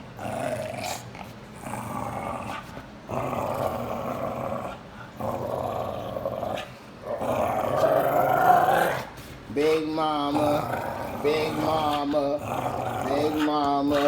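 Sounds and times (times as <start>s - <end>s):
dog growl-like grumbles: 0.2s - 14.0s.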